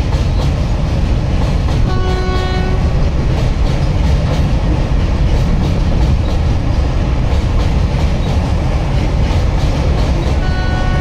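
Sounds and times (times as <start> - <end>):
freight train rumbling over bridge: 0.0 - 11.0
wheels clacking on rail joints: 0.0 - 11.0.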